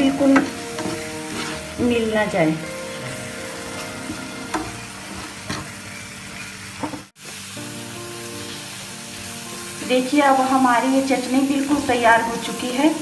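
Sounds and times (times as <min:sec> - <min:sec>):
chutney sizzling in a pan: 0:00.0 - 0:13.0.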